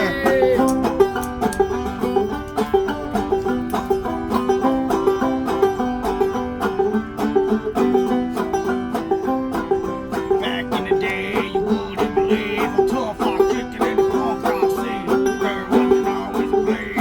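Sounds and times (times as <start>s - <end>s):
instrumental band with plucked strings: 0.0s - 17.0s.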